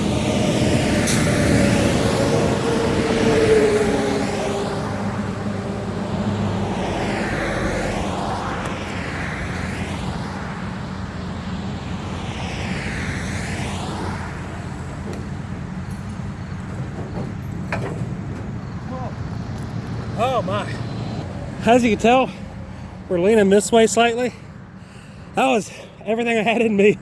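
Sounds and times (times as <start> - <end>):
steady low traffic hum: 0.0 - 27.0
vehicles whooshing past: 0.0 - 27.0.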